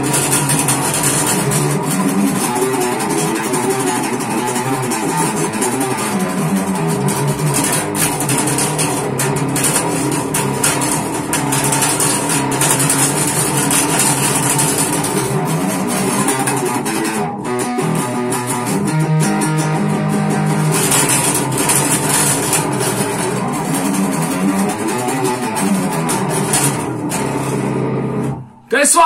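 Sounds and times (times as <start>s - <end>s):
electric bass guitar playing: 0.0s - 29.0s.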